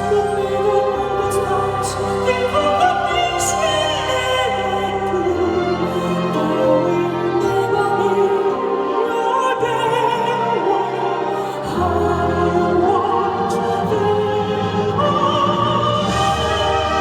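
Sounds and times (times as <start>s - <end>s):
man singing operatic melody: 0.0s - 17.0s
orchestral accompaniment: 0.0s - 17.0s.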